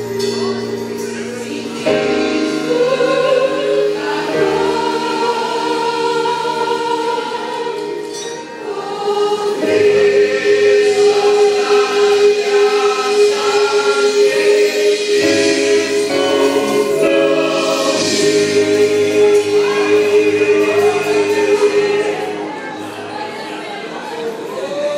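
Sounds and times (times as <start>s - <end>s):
choir singing a hymn: 0.0s - 24.9s.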